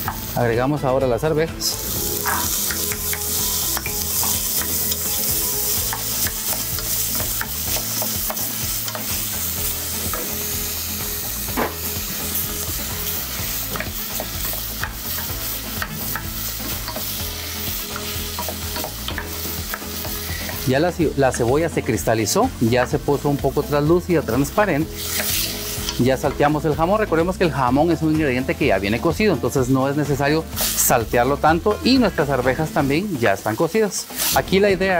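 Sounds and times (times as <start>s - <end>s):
food sizzling in oil: 0.0s - 34.9s.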